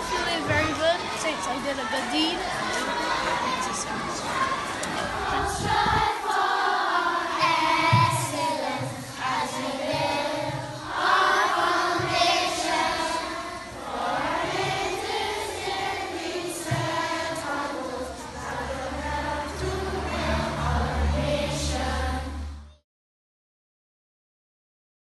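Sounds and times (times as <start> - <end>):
children's choir singing: 0.0 - 22.8.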